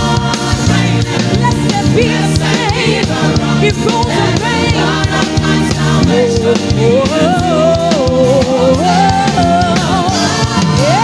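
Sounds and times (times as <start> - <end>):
band with drum kit playing: 0.0 - 11.0.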